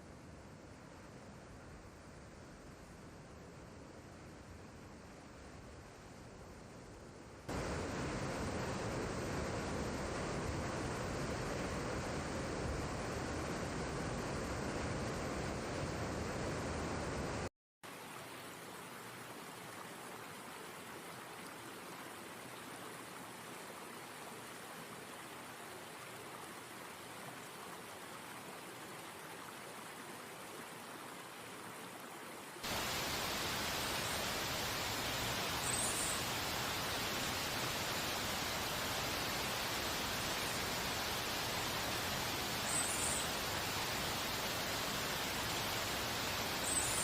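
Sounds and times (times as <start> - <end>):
stream water rushing: 7.5 - 47.0.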